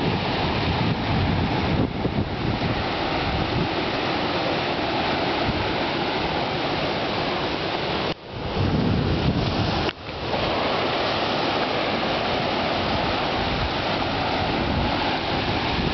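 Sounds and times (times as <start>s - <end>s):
surf breaking over rocks: 0.0s - 15.9s.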